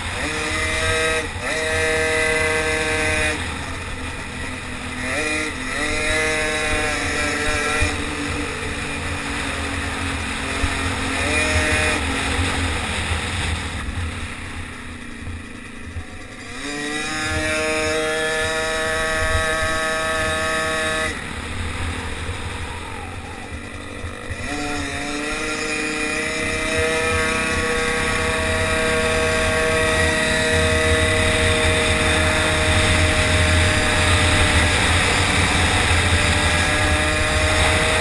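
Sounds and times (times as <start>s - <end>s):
small racing engine revving: 0.0s - 38.0s.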